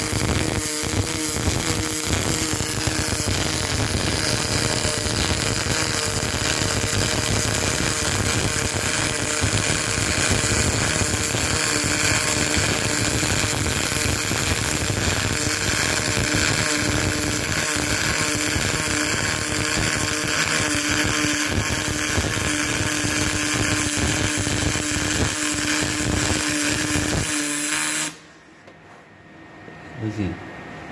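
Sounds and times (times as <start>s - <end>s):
welding arc crackling hiss: 0.0s - 28.3s.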